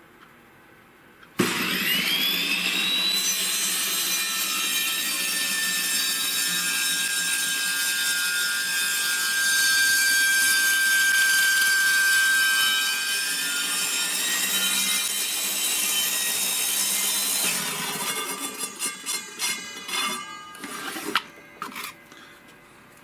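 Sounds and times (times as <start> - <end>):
table saw cutting board: 1.4 - 22.0.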